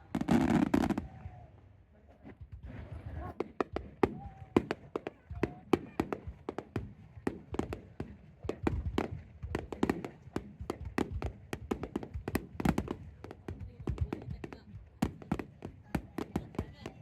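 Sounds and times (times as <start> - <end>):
fireworks popping and crackling: 0.0 - 1.3, 2.3 - 17.0.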